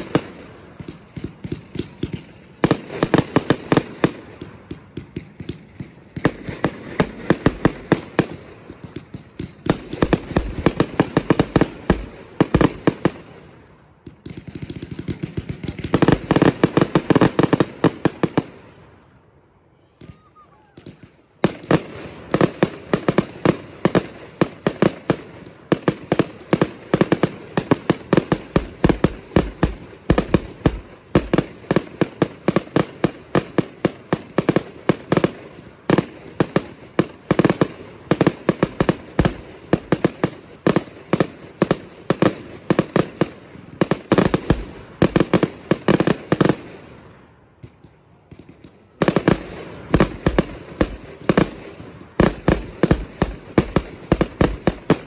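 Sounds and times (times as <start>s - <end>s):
fireworks firing rapid shots: 0.0s - 18.9s, 20.0s - 55.0s.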